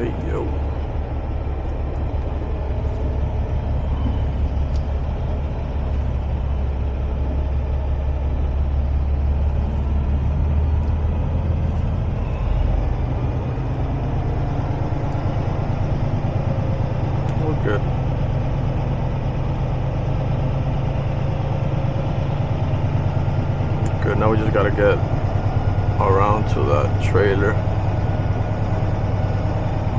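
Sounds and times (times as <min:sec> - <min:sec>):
diesel truck engine rumbling: 0:00.0 - 0:29.9.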